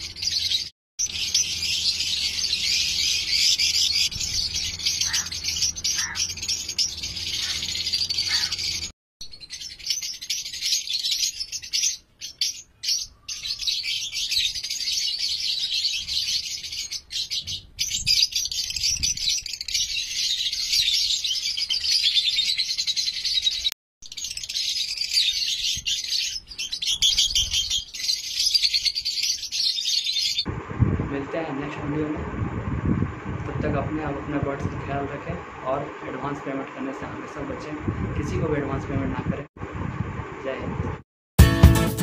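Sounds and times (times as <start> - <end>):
lovebirds twittering: 0.0 - 39.4.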